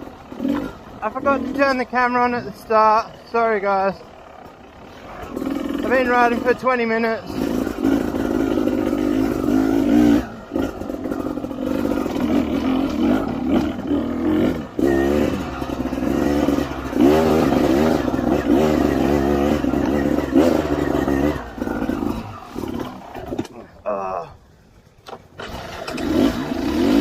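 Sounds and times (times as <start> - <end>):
dirt bike engine revving: 0.0 - 24.2, 25.4 - 27.0.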